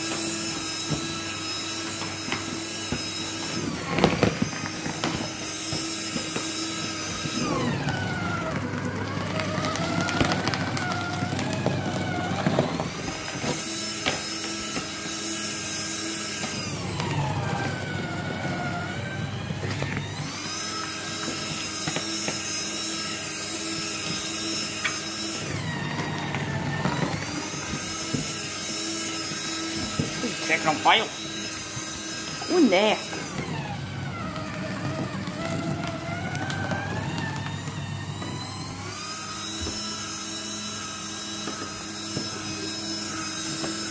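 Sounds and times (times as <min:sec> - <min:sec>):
electric shredder motor whining: 0:00.0 - 0:43.9
shredder chewing cardboard: 0:00.0 - 0:43.9.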